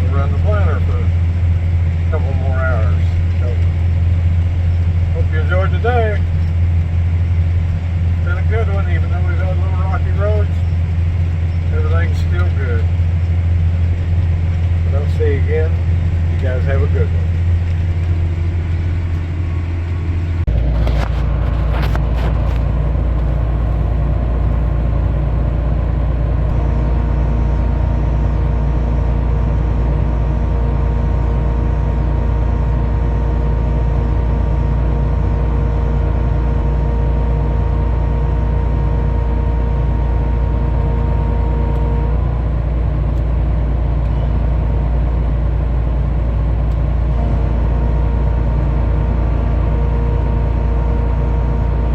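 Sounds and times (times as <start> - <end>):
steady whine: 0.0 - 51.9
tractor engine under load: 0.0 - 51.9.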